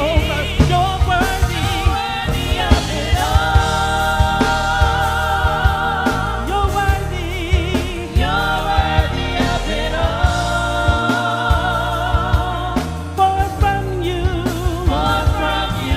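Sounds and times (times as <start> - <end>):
singers holding long notes: 0.0 - 13.2, 13.8 - 15.9
gospel worship music: 0.0 - 15.9.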